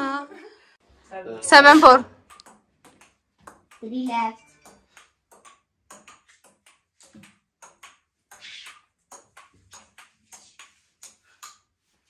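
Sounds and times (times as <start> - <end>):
ping-pong ball hitting paddles: 1.6 - 12.0
ping-pong ball bouncing on table: 1.7 - 12.0.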